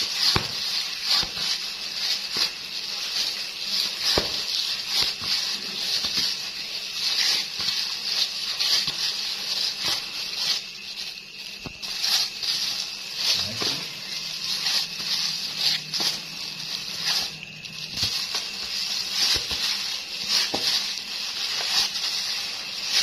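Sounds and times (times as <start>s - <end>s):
hands squelching bait mix: 0.0s - 23.0s.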